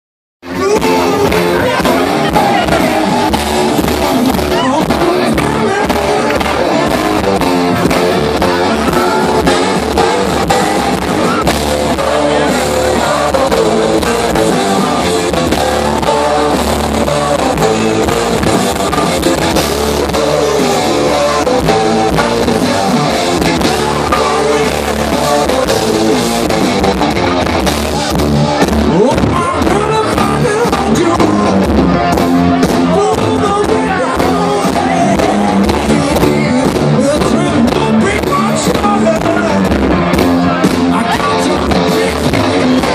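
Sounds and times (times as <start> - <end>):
bass guitar: 0.4 - 42.9
drum kit: 0.4 - 42.9
electric guitar: 0.4 - 42.9
person singing: 0.4 - 42.9.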